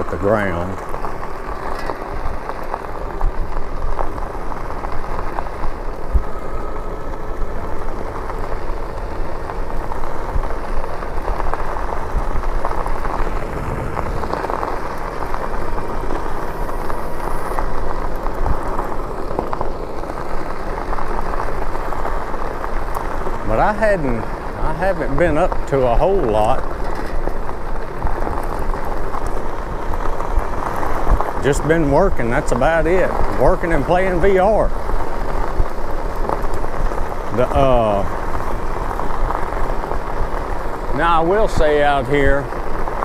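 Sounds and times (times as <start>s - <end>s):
e-bike tyre and riding noise: 0.0s - 43.0s.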